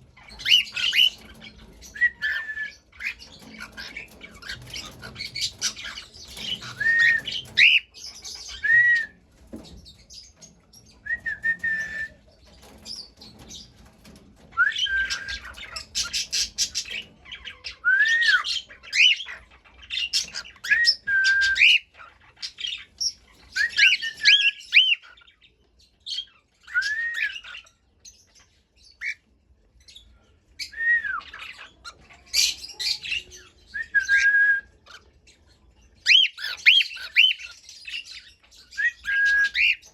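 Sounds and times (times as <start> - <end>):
cockatiels chirping and calling: 0.0 - 39.9.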